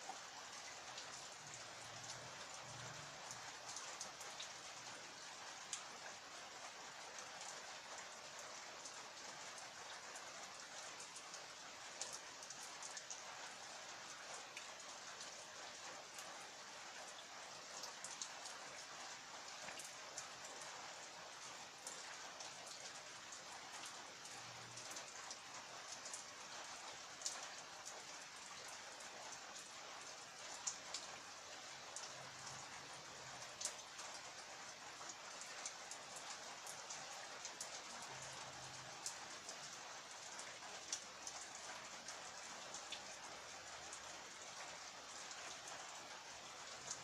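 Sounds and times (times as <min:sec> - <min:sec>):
steady rain: 0:00.0 - 0:47.0.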